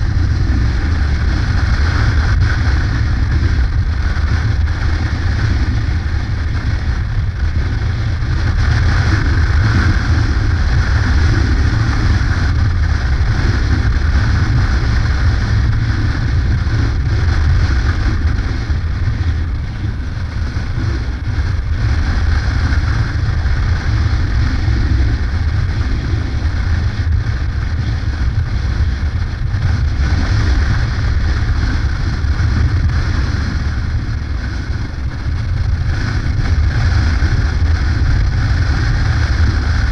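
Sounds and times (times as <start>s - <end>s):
motorcycle engine and road rumble: 0.0s - 39.9s
wind noise on microphone: 0.0s - 39.9s.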